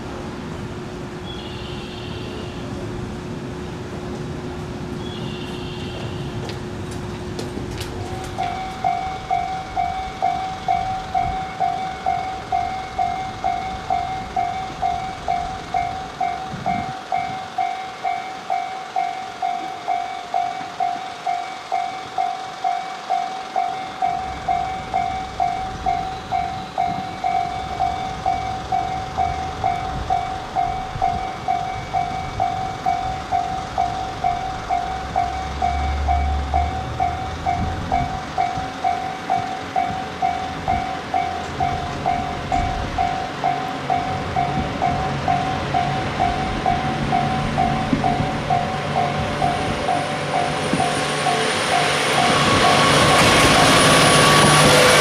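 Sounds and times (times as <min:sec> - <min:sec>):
diesel railcar engine rumble: 0:00.0 - 0:55.0
level crossing bell ringing: 0:08.1 - 0:55.0.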